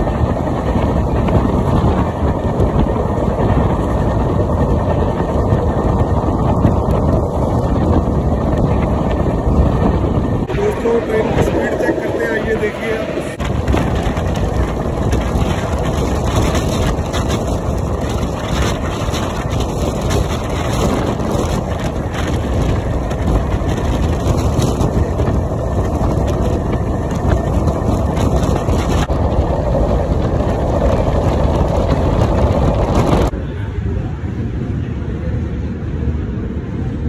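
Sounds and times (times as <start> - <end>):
train wheels rumbling on track: 0.0 - 37.0
wind buffeting microphone: 0.0 - 37.0.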